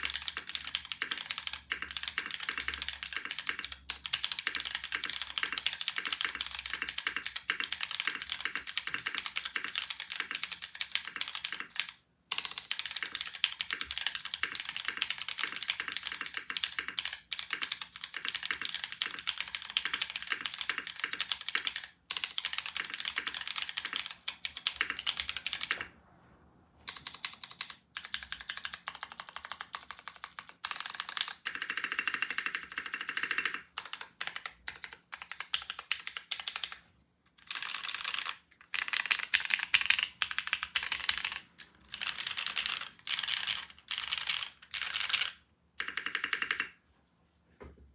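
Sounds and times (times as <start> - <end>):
mechanical keyboard typing: 0.0 - 25.9, 26.9 - 36.8, 37.4 - 46.8.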